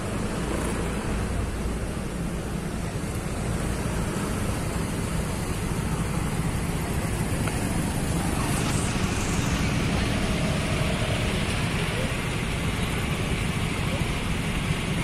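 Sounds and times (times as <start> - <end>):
diesel bus engine idling: 0.0 - 15.0.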